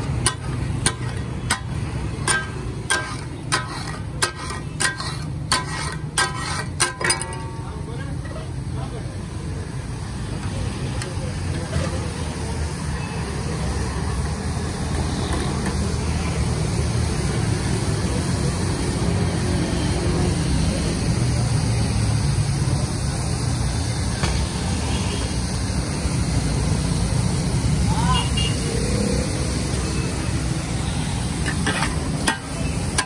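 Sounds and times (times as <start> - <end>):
food sizzling on a griddle: 0.0 - 33.0.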